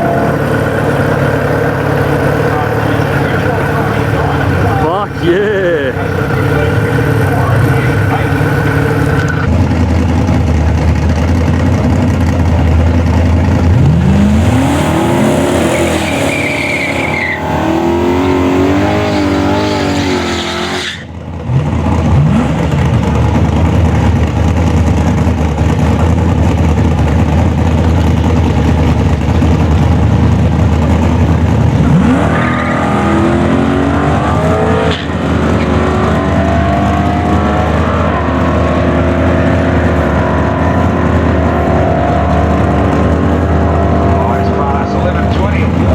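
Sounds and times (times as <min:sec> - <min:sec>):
car accelerating hard: 0:00.0 - 0:45.9.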